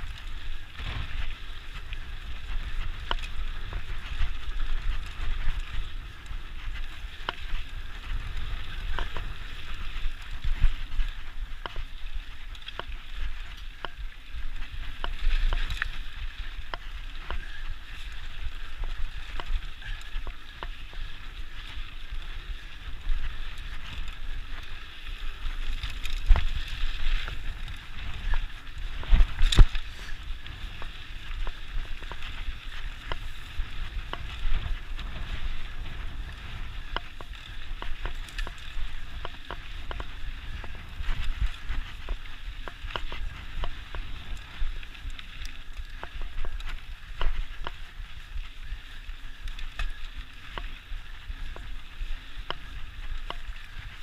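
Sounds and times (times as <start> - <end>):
bike knocking and rattling: 0.0 - 54.0
bike tyres on dirt trail: 0.0 - 54.0
wind noise: 0.0 - 54.0.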